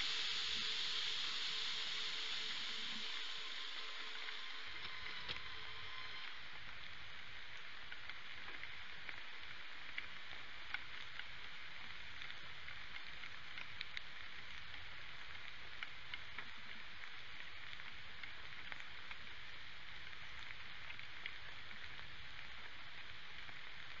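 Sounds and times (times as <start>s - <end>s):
sharp ticks of raindrops: 0.0s - 24.0s
steady rain hiss: 0.0s - 24.0s.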